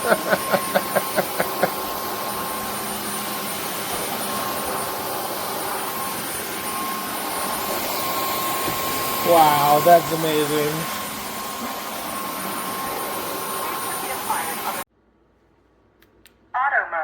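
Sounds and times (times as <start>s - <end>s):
vacuum motor whine and suction: 0.0s - 14.8s.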